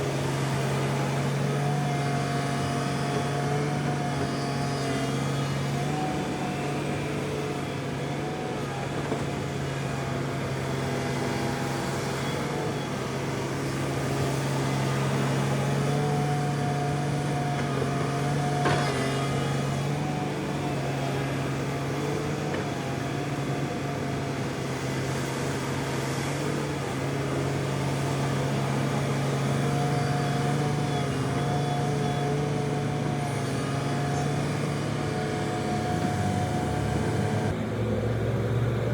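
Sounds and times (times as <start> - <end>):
high machinery whine: 0.0 - 38.4
heavy machinery humming: 0.0 - 38.9.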